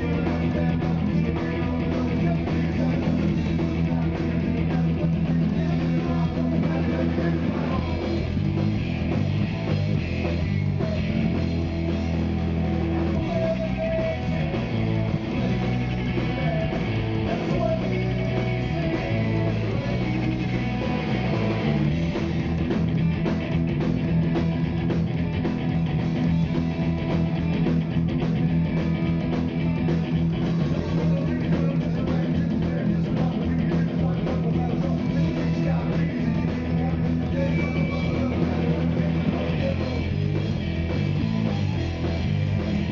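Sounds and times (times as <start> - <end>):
bass guitar: 0.0 - 42.9
drums: 0.0 - 42.9
electric guitar: 0.0 - 42.9.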